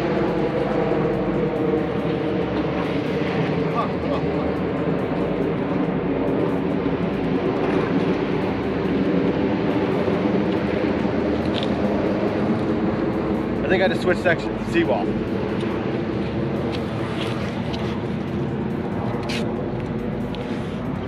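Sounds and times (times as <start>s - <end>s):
loud rumbling: 0.0s - 21.0s
low engine drone: 0.0s - 21.0s.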